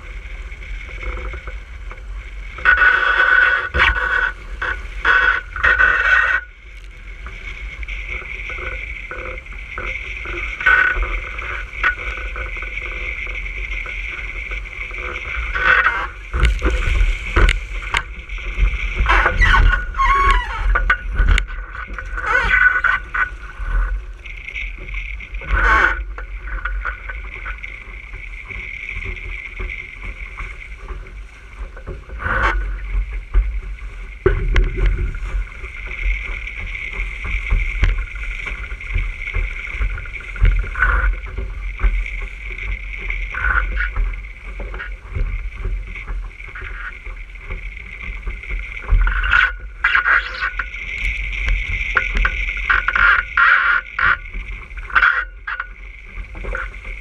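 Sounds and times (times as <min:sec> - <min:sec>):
wind buffeting microphone: 0:00.0 - 0:49.8
water splashing along hull: 0:00.0 - 0:57.0.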